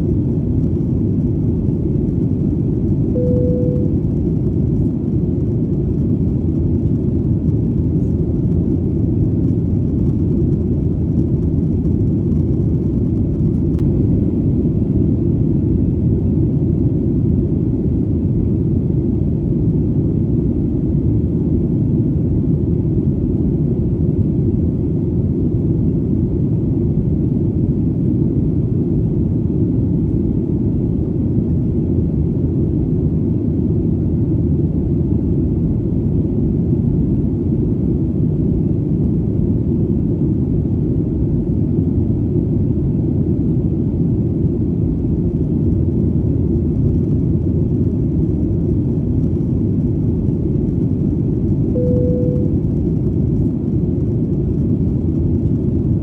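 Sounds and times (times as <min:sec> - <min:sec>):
airplane deep rumble: 0:00.0 - 0:56.0.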